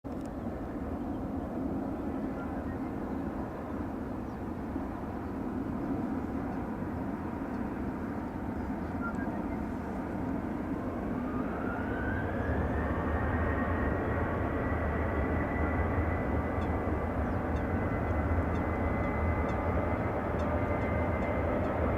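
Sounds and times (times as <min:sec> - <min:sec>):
jet engines rumbling: 0:00.1 - 0:21.9
jet engine whine rising: 0:00.2 - 0:21.9.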